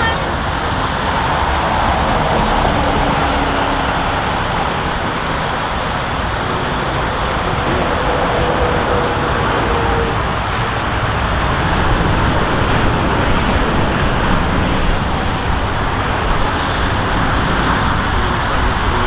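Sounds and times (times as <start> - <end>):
jet engine rush: 0.0 - 19.0.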